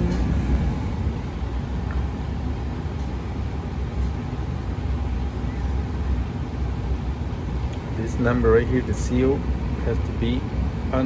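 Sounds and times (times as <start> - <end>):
gas furnace rumbling: 0.0 - 11.0.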